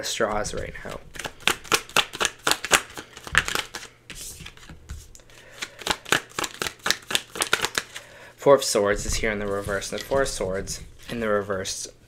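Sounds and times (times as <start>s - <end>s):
cards being shuffled: 0.3s - 8.0s, 8.9s - 11.4s.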